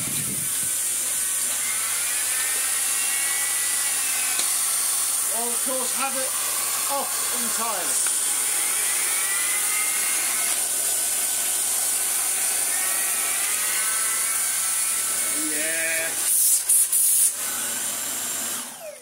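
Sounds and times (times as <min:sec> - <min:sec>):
vacuum cleaner whine: 0:00.0 - 0:19.0.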